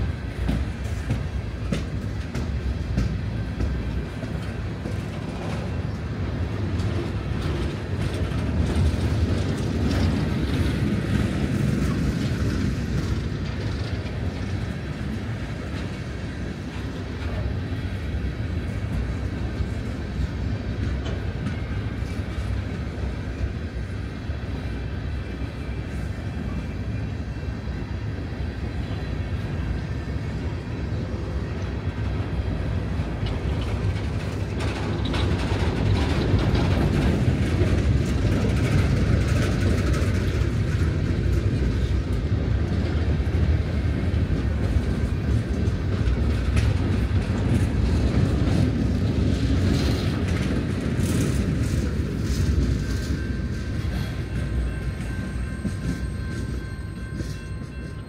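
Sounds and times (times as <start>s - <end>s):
freight train rumble and wheel clatter: 0.0s - 58.0s.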